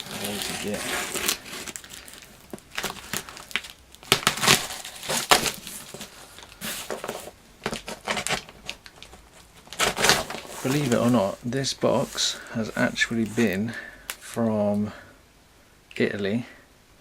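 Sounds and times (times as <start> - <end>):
packaging crinkling and rustling: 0.0 - 13.6
cardboard parcel being opened: 0.0 - 13.8.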